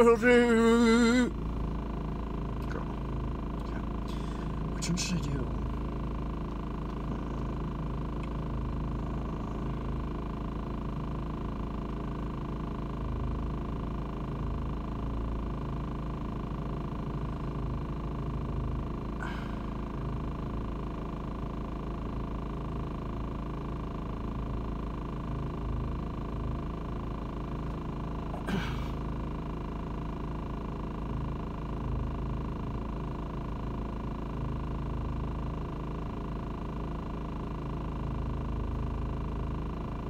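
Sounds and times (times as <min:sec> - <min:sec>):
low hum in van cabin: 0:00.0 - 0:40.0.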